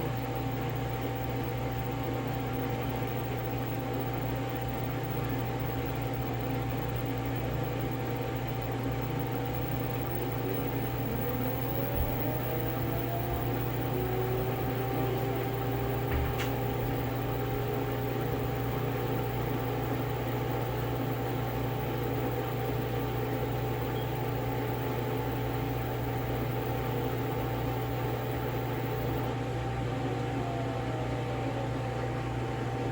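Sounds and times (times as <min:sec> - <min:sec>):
washing machine motor and drum hum: 0:00.0 - 0:32.9.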